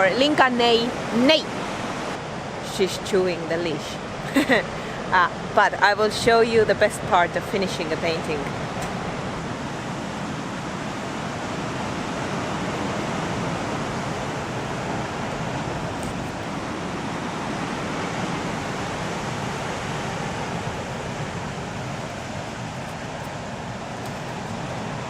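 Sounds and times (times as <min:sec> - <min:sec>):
ocean surf rushing: 0:00.0 - 0:25.0
wind: 0:00.0 - 0:25.0.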